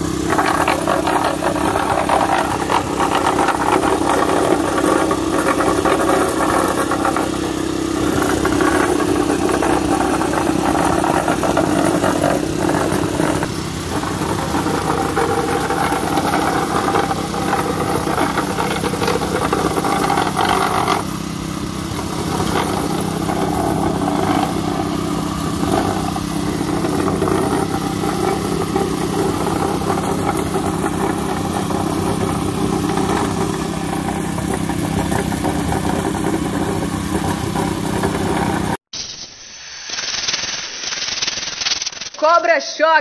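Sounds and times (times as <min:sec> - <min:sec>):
plate compactor engine running: 0:00.0 - 0:38.8.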